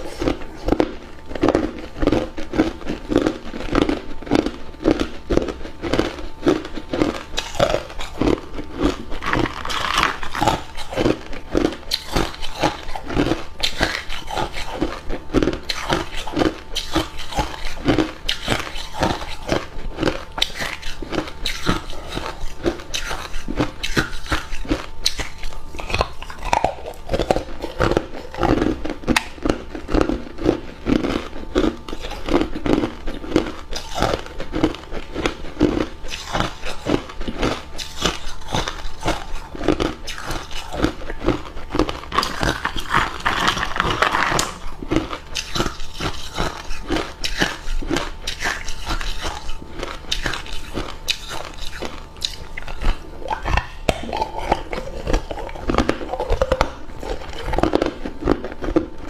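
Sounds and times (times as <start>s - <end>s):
person chewing ice cubes: 0.0s - 59.0s.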